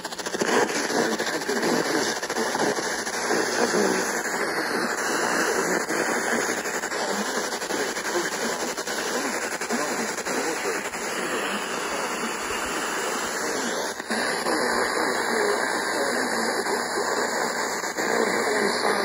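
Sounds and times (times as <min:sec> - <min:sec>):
faint radio program audio: 0:00.0 - 0:19.0
radio static hiss: 0:00.0 - 0:19.0.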